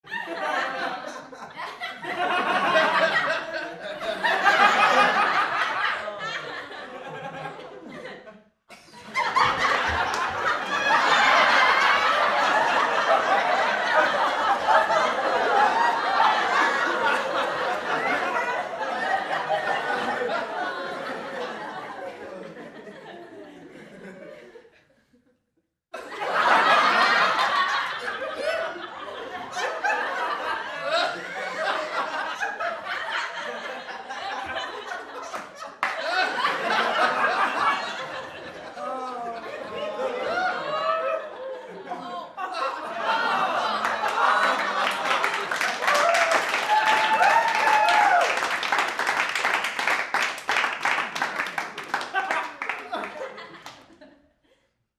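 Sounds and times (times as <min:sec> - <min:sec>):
crowd laughing: 0:00.0 - 0:25.4, 0:26.0 - 0:54.6.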